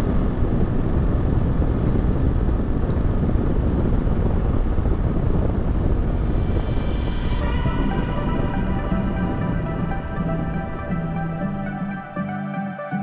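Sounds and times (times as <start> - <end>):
road noise: 0.0 - 12.1
wind over microphone: 0.0 - 12.2.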